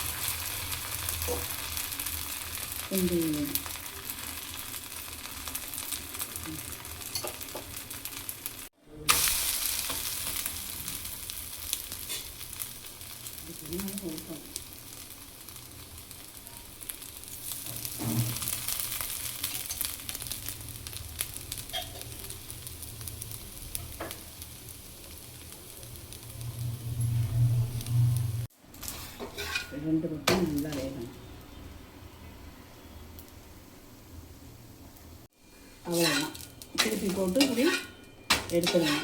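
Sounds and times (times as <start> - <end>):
batter sizzling in oil: 0.0 - 39.0.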